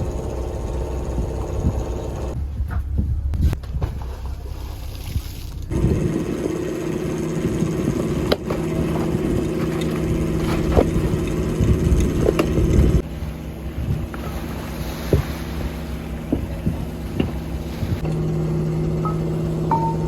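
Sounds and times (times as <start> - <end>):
boat engine humming: 0.0 - 2.5, 3.6 - 20.0.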